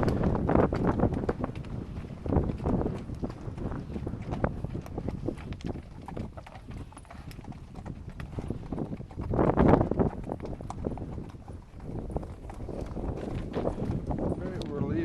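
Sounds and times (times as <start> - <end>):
mule hooves clopping on rocks: 0.0 - 15.0.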